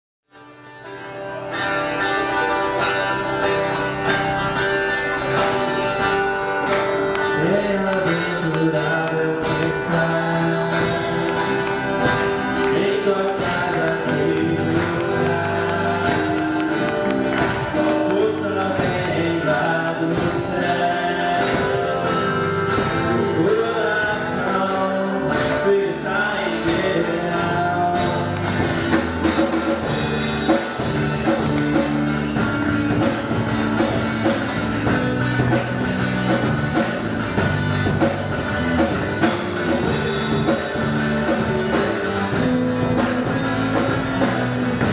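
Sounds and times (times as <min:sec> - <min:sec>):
guitar: 0:00.3 - 0:44.9
gospel band music: 0:00.4 - 0:44.9.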